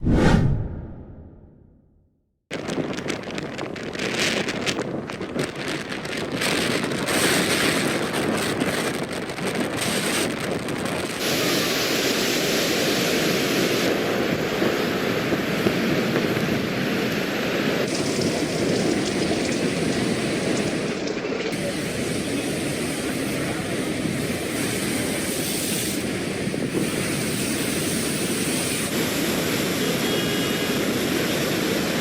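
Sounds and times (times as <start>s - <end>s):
wind buffeting microphone: 2.5s - 29.9s.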